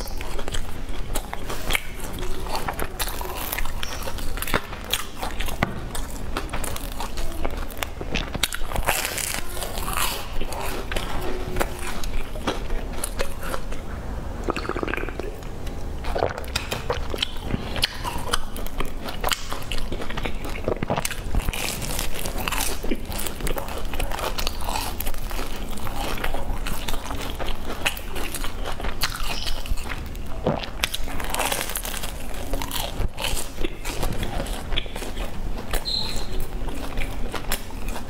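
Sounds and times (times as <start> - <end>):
crunchy chewing: 0.0 - 38.0.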